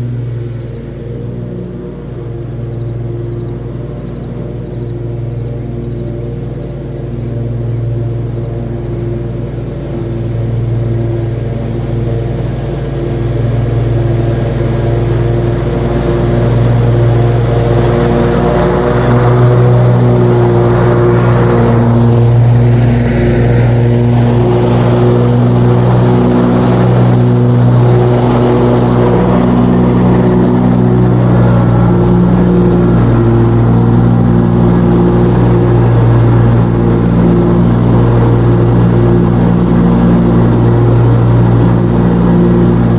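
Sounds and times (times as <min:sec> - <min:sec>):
riding lawn mower engine: 0:00.0 - 0:42.9.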